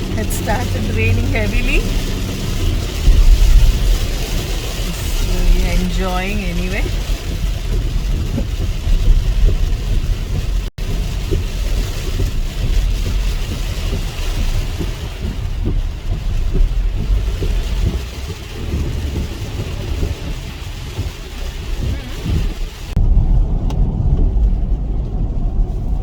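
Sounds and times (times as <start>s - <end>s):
car road and engine rumble: 0.0s - 26.0s
heavy rain on a car: 0.0s - 26.0s.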